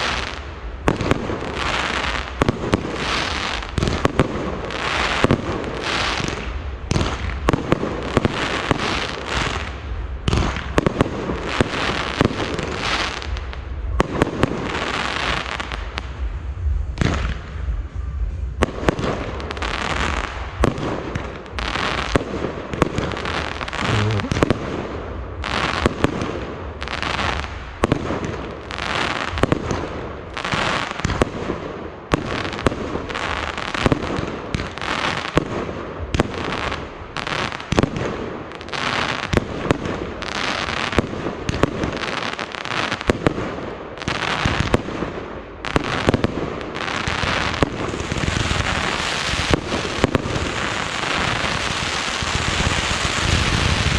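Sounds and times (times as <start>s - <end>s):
fireworks bangs: 0.0s - 53.9s
fireworks crackling and hissing: 0.0s - 53.9s.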